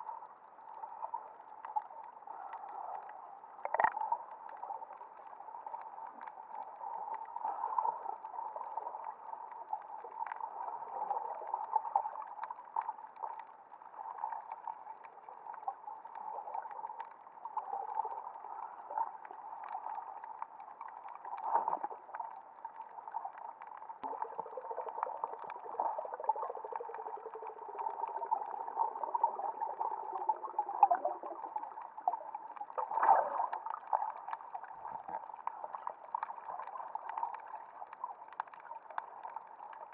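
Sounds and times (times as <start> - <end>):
water swish: 0.0 - 39.9
underwater water hiss with crackles: 0.1 - 39.9.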